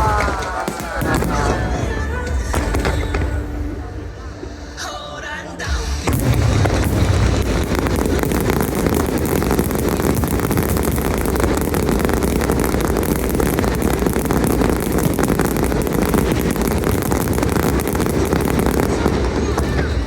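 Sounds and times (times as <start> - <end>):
fireworks barrage crackling: 0.0 - 4.8, 5.6 - 20.0.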